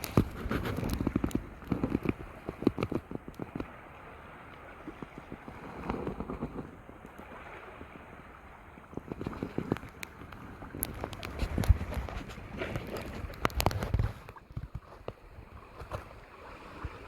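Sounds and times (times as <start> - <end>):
water sloshing around kayak: 0.0 - 17.0
wind on microphone: 0.0 - 17.0.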